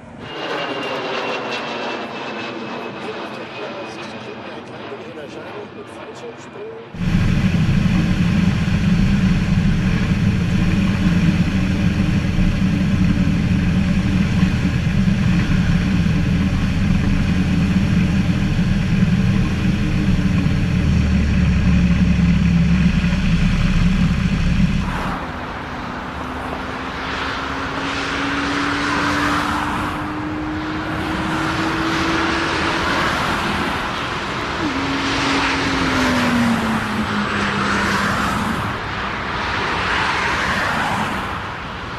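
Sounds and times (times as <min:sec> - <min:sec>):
airliner engines rumbling: 0:00.0 - 0:41.9
engine whine: 0:00.0 - 0:41.9.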